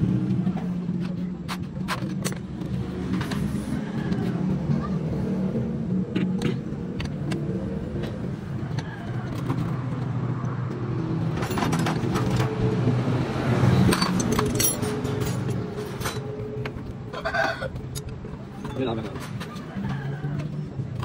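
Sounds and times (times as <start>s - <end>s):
motor vehicles humming: 0.0s - 21.0s.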